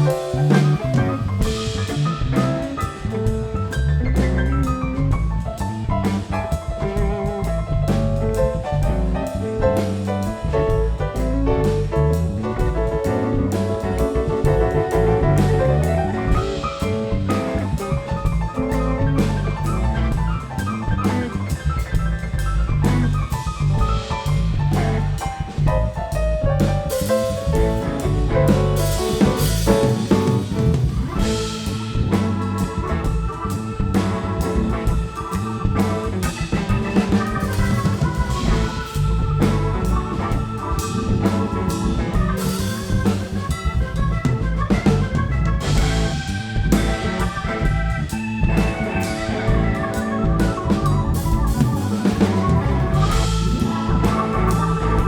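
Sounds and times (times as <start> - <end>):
drum kit beat: 0.0 - 55.0
held organ chords: 0.0 - 55.0
live band instrumental: 0.0 - 55.0.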